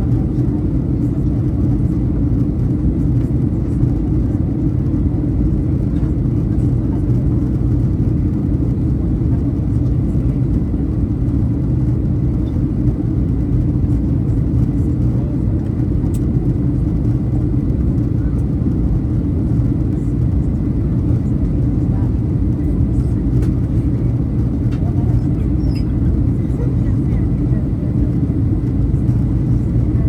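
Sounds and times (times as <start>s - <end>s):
jet engines rumbling in cabin: 0.0s - 30.0s.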